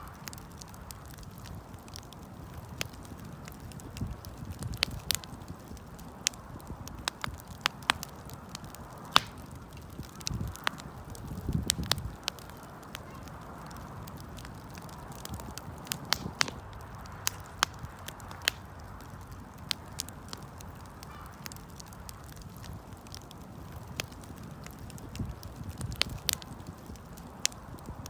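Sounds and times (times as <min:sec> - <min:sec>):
low rush of burning: 0:00.0 - 0:28.0
wood fire crackling: 0:00.0 - 0:28.0.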